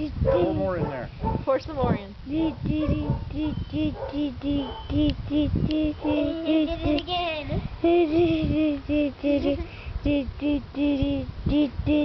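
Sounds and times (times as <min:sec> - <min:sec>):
child singing: 0:02.3 - 0:12.0.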